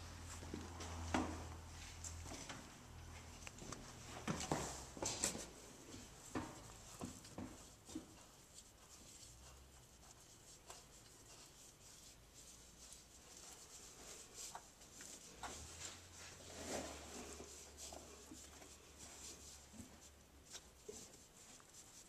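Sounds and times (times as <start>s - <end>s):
handling noise rubbing: 0.0s - 22.0s.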